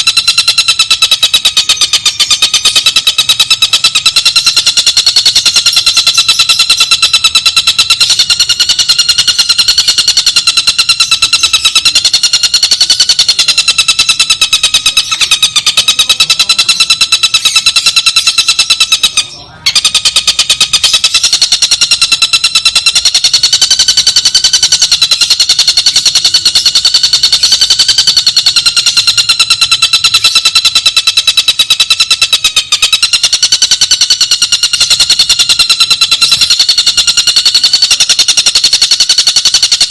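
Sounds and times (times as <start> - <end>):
songbird chattering trill: 0.0 - 39.9.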